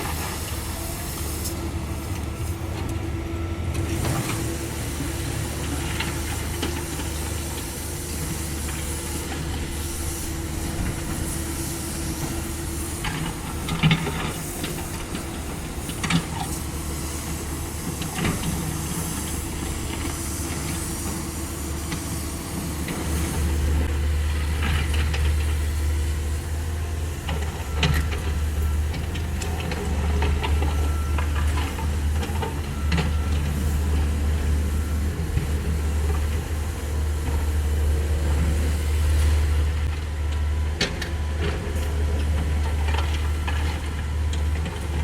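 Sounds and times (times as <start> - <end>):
excavator engine and hydraulics: 0.0 - 45.0.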